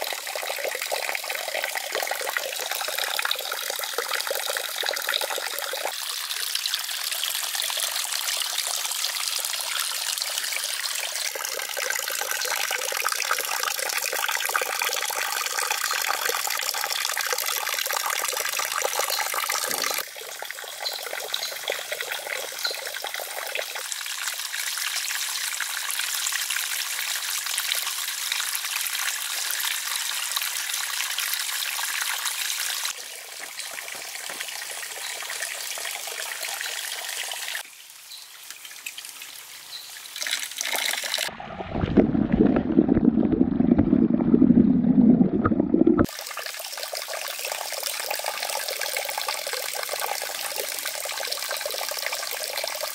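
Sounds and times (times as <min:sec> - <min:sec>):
water trickling into pond: 0:00.0 - 0:52.9.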